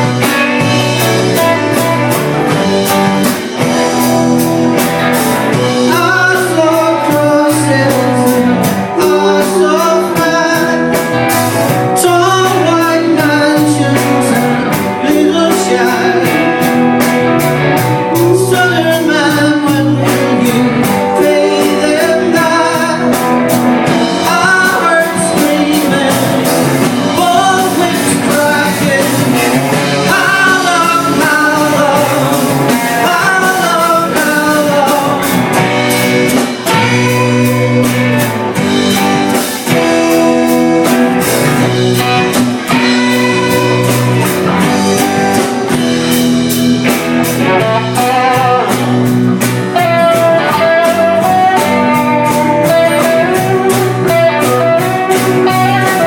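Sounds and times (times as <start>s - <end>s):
acoustic guitar: 0.0s - 56.0s
drum kit: 0.0s - 56.0s
electric guitar: 0.0s - 56.0s
man singing: 5.0s - 56.0s.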